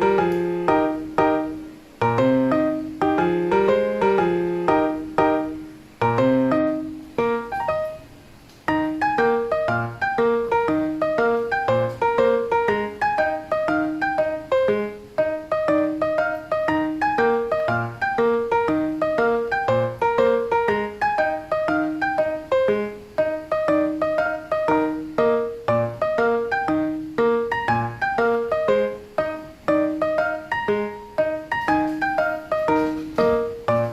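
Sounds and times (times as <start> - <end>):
piano single struck notes: 0.0 - 33.9.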